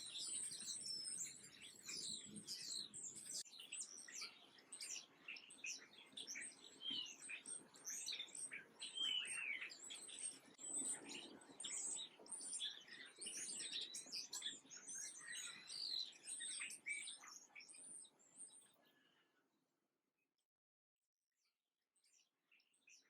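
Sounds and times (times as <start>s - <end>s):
small birds chirping: 0.0s - 19.4s, 22.0s - 23.0s.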